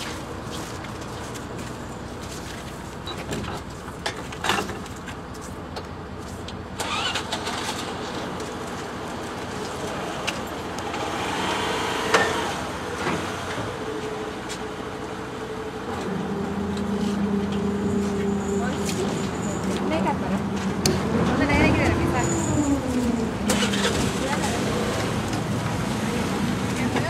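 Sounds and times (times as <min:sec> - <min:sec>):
ferry engines running: 0:00.0 - 0:27.0.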